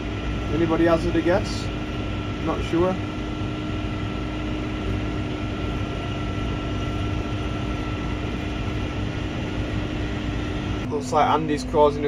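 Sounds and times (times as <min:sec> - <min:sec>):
faint steady whine: 0:00.0 - 0:12.0
tractor engine drone: 0:00.0 - 0:12.0.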